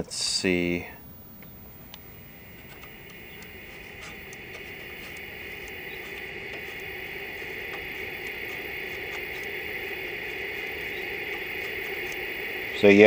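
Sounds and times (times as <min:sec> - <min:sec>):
television hiss: 0:00.0 - 0:13.0
faint clicks: 0:01.4 - 0:13.0.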